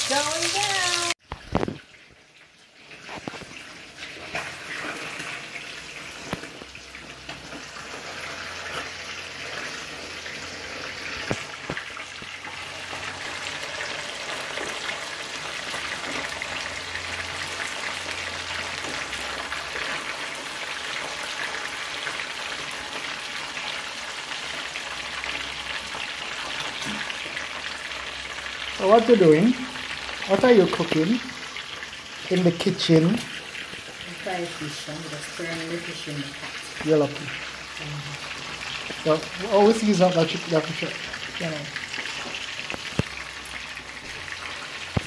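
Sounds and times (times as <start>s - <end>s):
fish sizzling in oil: 0.0s - 45.0s.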